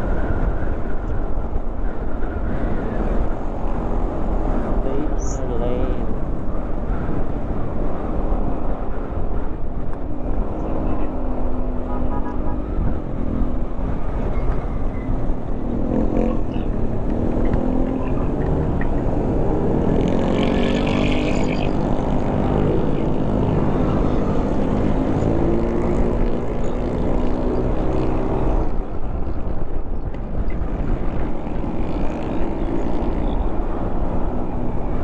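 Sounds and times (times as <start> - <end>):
wind rumbling on microphone: 0.0 - 35.0.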